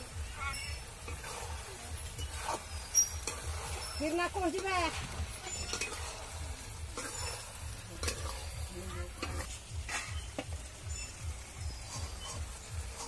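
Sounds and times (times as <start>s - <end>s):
curry sizzling: 0.0s - 13.0s
metal spatula scraping pan: 0.0s - 13.0s.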